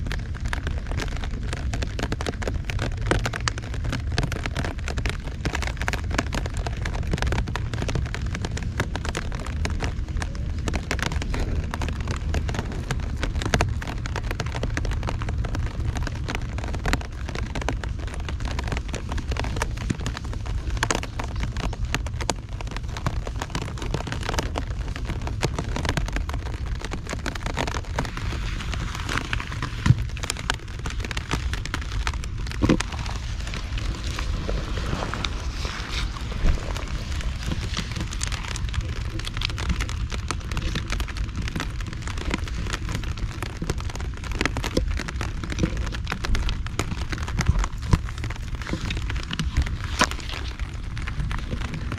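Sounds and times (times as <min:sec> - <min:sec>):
heavy rain pattering: 0:00.0 - 0:51.9
steady low rumble: 0:00.0 - 0:51.9.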